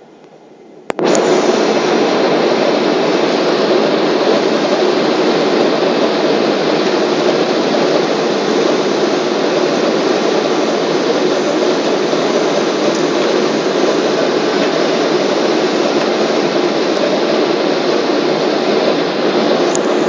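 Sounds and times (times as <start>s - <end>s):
jet engines in airplane cabin: 0.0s - 20.0s.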